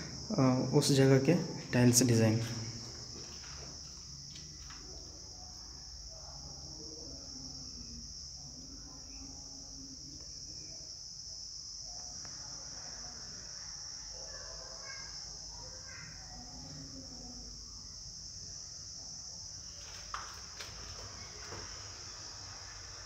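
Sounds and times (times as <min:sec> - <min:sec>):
crickets chirring: 0:00.0 - 0:23.0
faint distant voices: 0:00.0 - 0:23.0.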